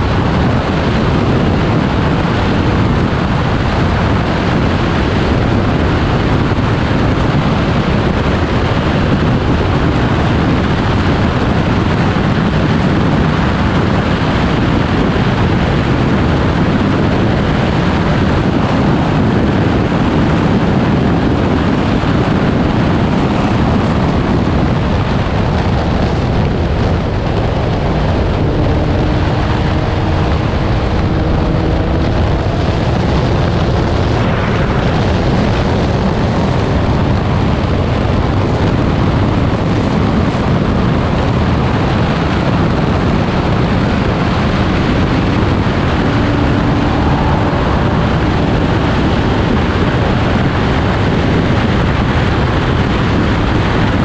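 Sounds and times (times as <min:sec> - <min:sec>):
wind rush and road noise: 0:00.0 - 0:54.0.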